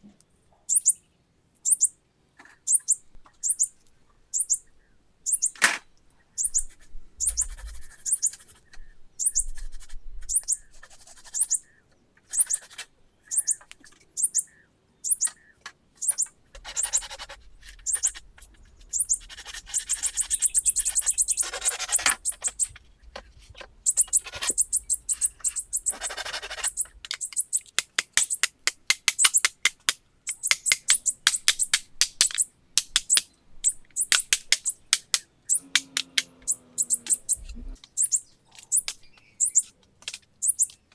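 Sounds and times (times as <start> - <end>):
small bird chirping: 0.1 - 40.9.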